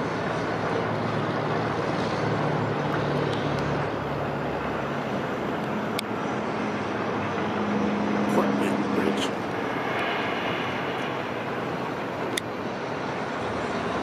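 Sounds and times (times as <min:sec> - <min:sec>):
outdoor rushing noise: 0:00.0 - 0:14.0.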